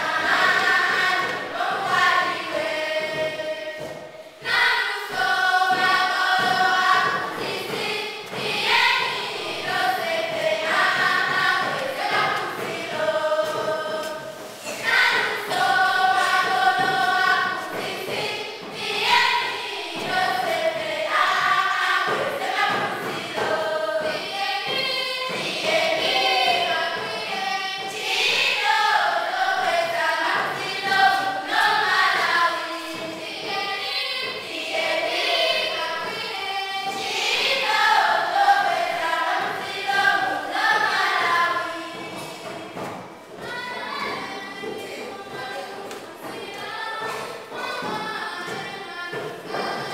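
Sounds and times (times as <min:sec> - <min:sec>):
girls singing together: 0:00.0 - 0:49.9.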